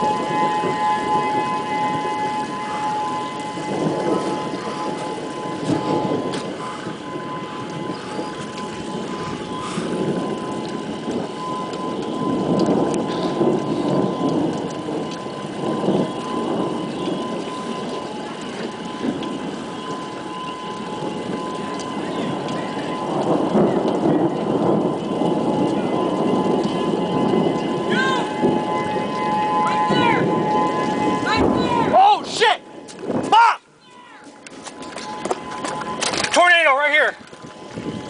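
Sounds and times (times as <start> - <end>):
rain: 0.0 - 38.0
wind: 0.0 - 38.0.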